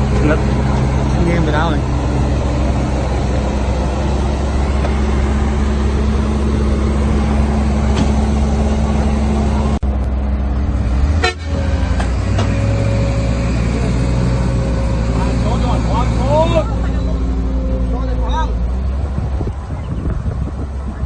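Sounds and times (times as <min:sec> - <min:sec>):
heavy diesel engines running: 0:00.0 - 0:21.0.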